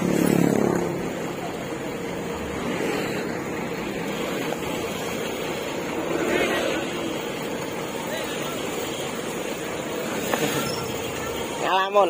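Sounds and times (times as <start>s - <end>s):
diesel engine idling: 0.8s - 12.0s.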